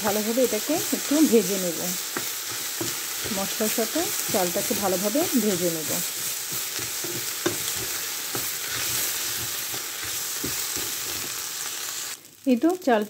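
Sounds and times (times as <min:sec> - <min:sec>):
rice sizzling in hot oil: 0:00.0 - 0:13.0
rice stirred and scraped in pot: 0:00.4 - 0:12.1.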